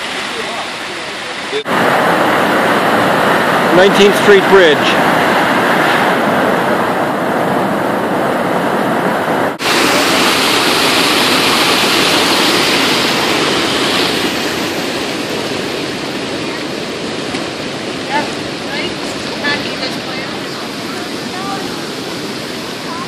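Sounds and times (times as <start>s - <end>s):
floodwater rushing in creek: 0.0s - 23.0s.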